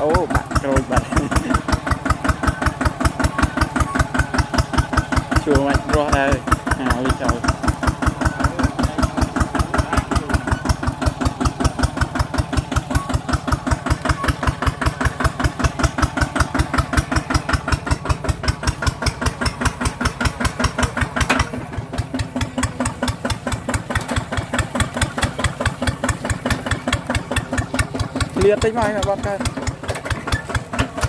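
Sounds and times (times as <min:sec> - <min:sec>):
tractor engine chugging: 0:00.0 - 0:31.0.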